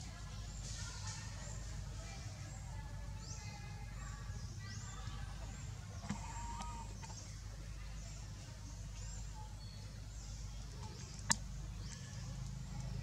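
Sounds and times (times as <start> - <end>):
low steady rumble: 0.0 - 13.0
faint bird calls: 2.5 - 13.0.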